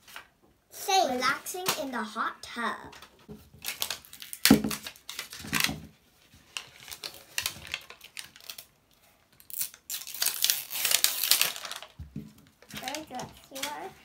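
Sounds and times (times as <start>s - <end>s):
toy packaging rustling and crinkling: 1.1s - 2.2s, 2.9s - 14.0s.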